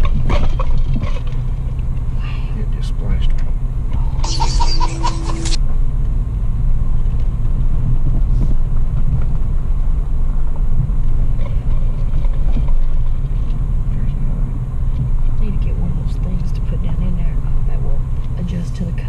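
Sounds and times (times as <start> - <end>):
engine droning inside cab: 0.0 - 19.0.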